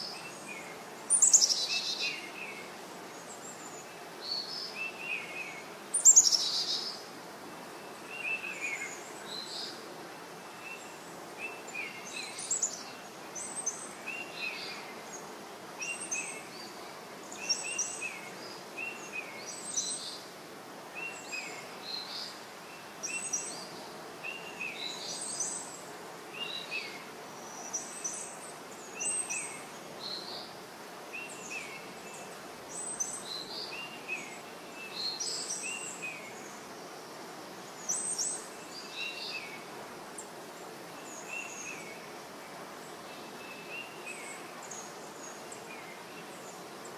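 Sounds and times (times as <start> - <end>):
small birds chirping: 0.0 - 46.9
steady outdoor hiss: 0.0 - 46.9.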